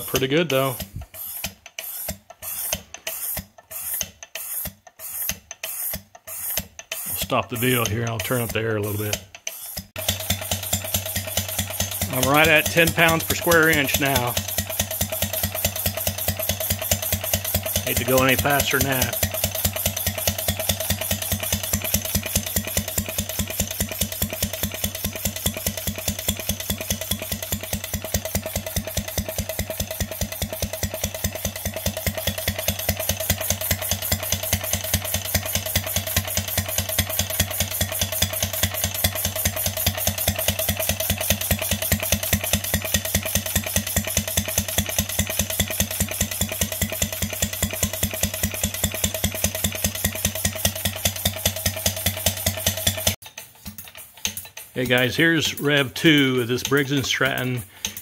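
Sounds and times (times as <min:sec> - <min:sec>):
engine puffing air exhaust: 0:00.0 - 0:07.8, 0:08.8 - 0:53.2, 0:54.6 - 0:58.0.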